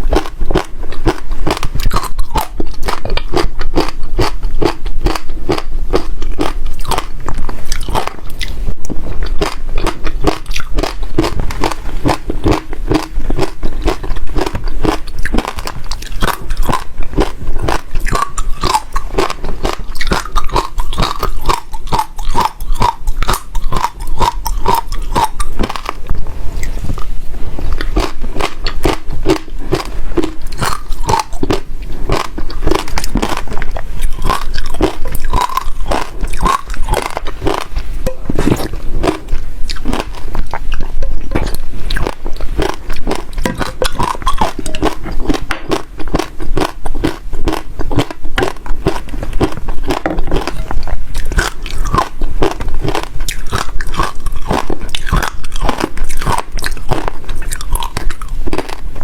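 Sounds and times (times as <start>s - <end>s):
seeds crunching while chewed: 0.0s - 59.0s.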